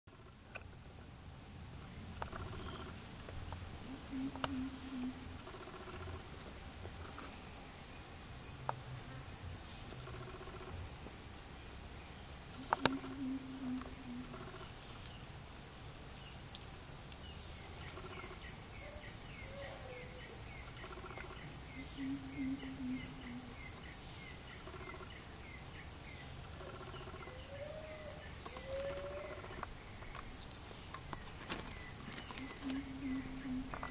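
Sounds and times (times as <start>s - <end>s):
faint insect chirps: 0.1s - 33.9s
insect drone: 0.1s - 33.9s.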